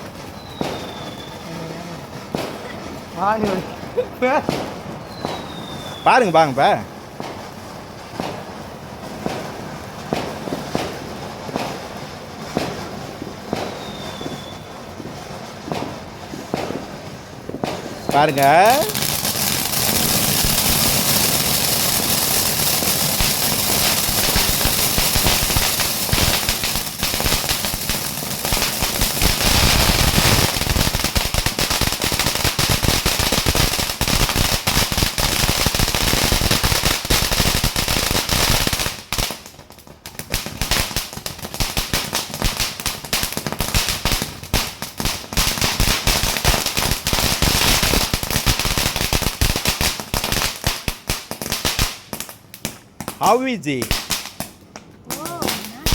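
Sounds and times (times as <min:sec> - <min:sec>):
firecrackers banging: 0:00.0 - 0:55.9.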